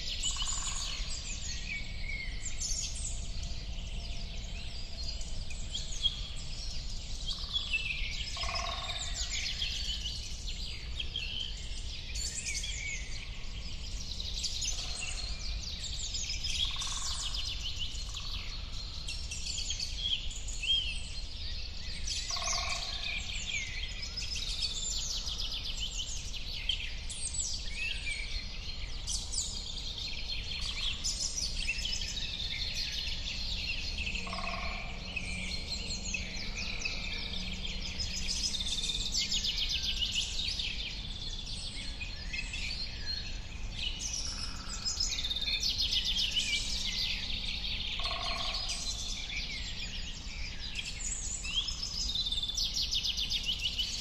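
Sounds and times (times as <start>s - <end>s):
birds singing and chirping: 0.0s - 54.0s
low background noise: 0.0s - 54.0s.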